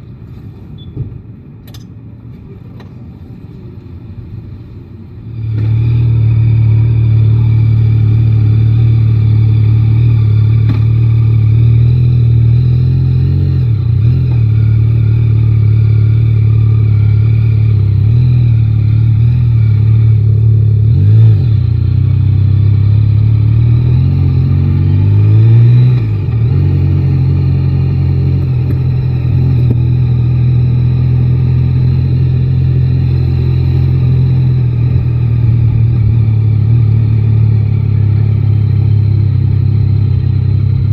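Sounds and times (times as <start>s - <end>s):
motorcycle engine running: 5.2s - 40.9s.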